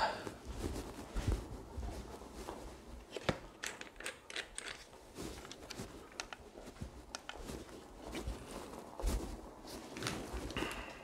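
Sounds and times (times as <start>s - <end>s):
footsteps: 0.2s - 3.6s, 4.6s - 11.0s.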